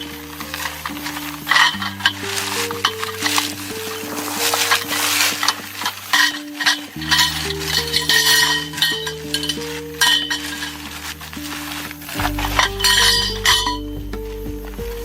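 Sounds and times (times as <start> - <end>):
utensil clinking against pan: 0.0 - 14.0
soft background music: 0.0 - 15.0.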